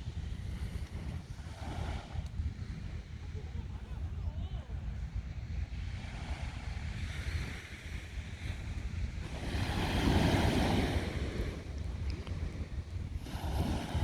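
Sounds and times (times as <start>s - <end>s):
sea waves washing onto beach: 0.0s - 4.5s, 5.6s - 14.0s
wind buffeting microphone: 0.0s - 14.0s.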